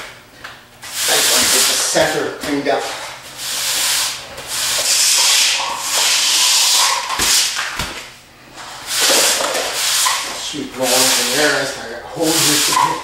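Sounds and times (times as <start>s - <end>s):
broom sweeping concrete: 0.8s - 7.6s, 8.6s - 13.0s.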